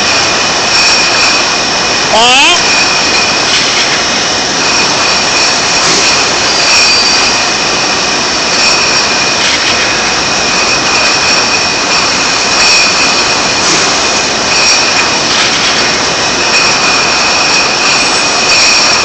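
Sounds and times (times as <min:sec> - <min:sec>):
high-pitched whine: 0:00.0 - 0:19.0
machine rushing noise: 0:00.0 - 0:19.0.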